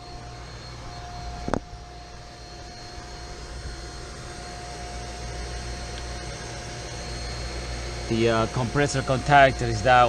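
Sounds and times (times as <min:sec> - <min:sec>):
mechanical drone: 0:00.0 - 0:10.0
thin steady whine: 0:00.0 - 0:10.0.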